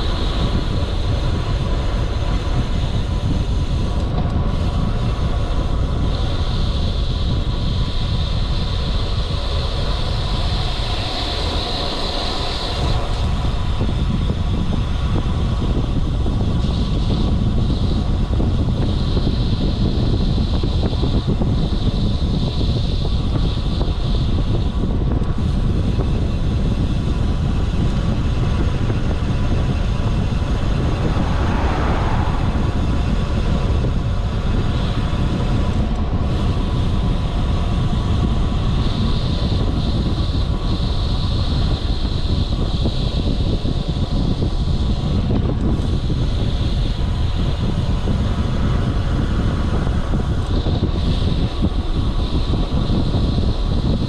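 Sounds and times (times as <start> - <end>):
bike tyre road noise: 0.0 - 54.0
wind rushing over microphone: 0.0 - 54.0.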